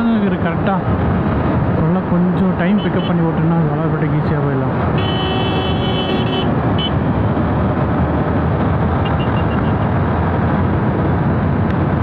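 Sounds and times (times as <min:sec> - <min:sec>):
motorcycle cruising: 0:00.0 - 0:12.0.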